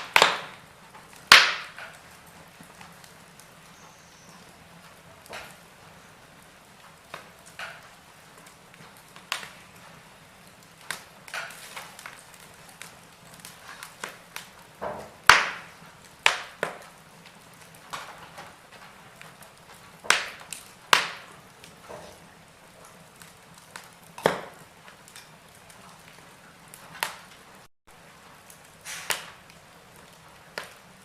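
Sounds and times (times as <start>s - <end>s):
sharp pops of fire: 0.0s - 31.0s
wood fire crackling: 0.0s - 31.0s.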